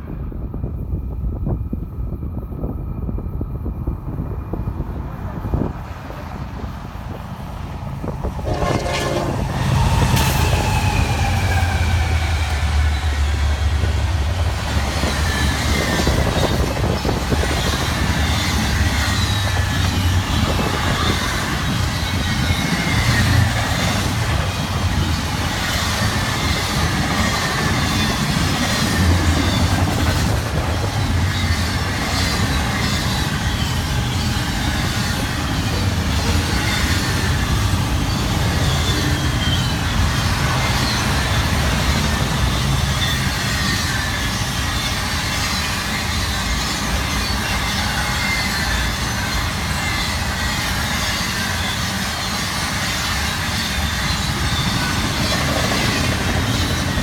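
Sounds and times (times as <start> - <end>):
railroad cars rumbling: 0.0 - 57.0
wheels squealing on rail: 4.1 - 57.0.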